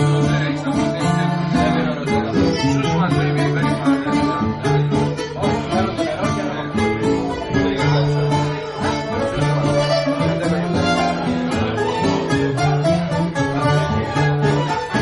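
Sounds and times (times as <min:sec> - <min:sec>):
plucked string instruments: 0:00.0 - 0:15.0
violin: 0:00.0 - 0:15.0.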